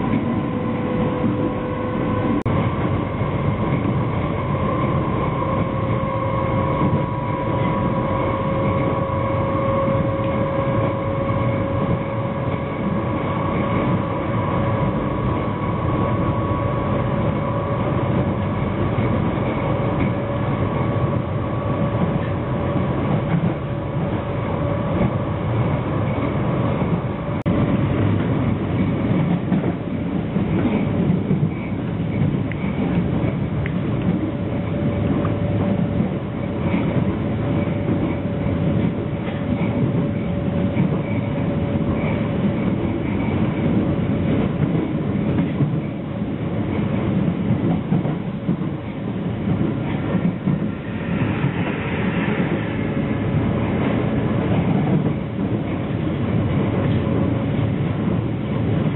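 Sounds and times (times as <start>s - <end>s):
train wheels rumbling on track: 0.0s - 58.9s.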